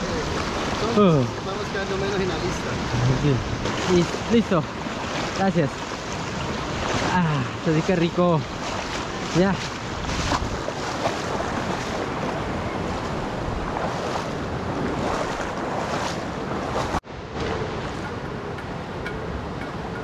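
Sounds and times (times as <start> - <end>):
river water rushing over stones: 0.0 - 18.2
wind buffeting microphone: 0.0 - 20.0.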